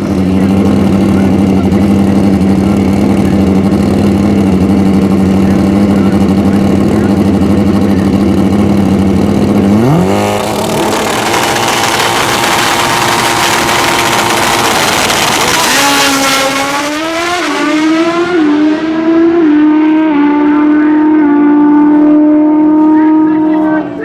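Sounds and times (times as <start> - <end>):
motorcycle engine roaring: 0.0 - 24.0.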